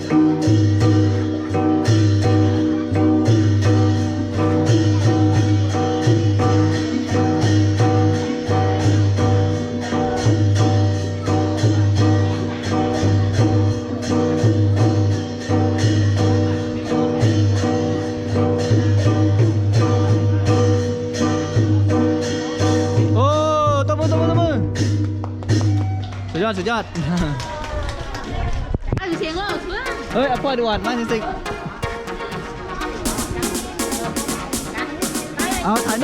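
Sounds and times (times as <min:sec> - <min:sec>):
sharp percussion strikes: 0:00.0 - 0:26.2, 0:29.1 - 0:36.0
held melodic tones: 0:00.0 - 0:26.6, 0:29.1 - 0:36.0
pulsing low drum: 0:00.1 - 0:26.0, 0:33.0 - 0:36.0.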